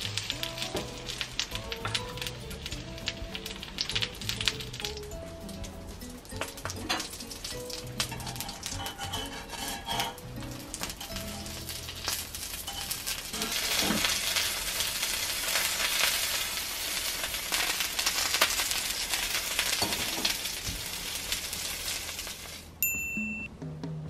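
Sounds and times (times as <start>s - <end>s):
food sizzling in oil: 0.0s - 22.8s.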